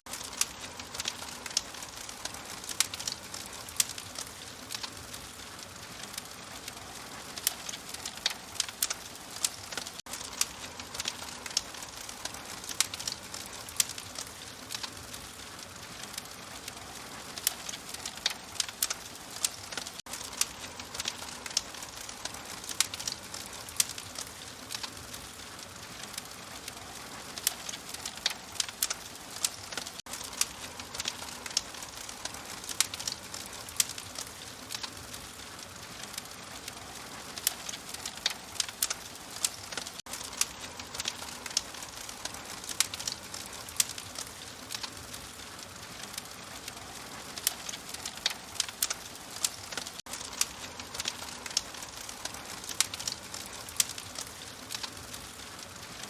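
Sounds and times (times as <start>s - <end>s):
open fire crackling and popping: 0.0s - 56.0s.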